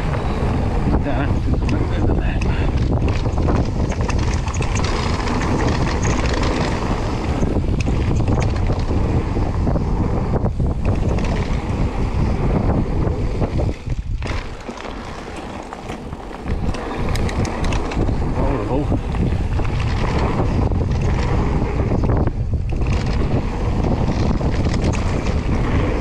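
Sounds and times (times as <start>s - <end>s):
bike tyres crunching over gravel: 0.0s - 22.1s
bike clicks and rattles: 0.0s - 26.0s
wind buffeting microphone: 0.0s - 26.0s.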